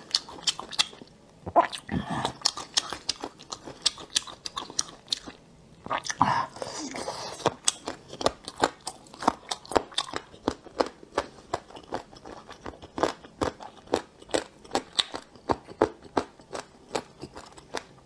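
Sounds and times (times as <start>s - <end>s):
person chewing crunchily: 0.0s - 18.0s.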